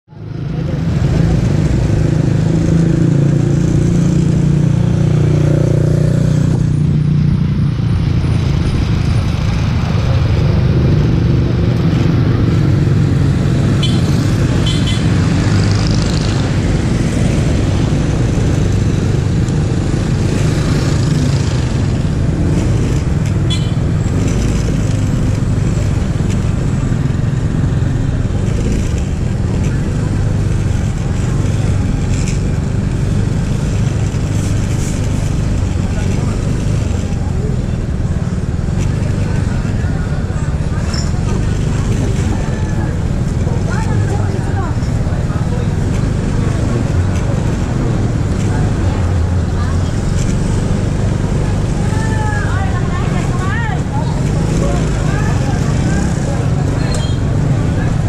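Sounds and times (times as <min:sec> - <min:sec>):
motorcycles and traffic: 0:00.0 - 0:58.0
wind and road noise: 0:00.1 - 0:58.0
scooter engine running: 0:00.4 - 0:58.0.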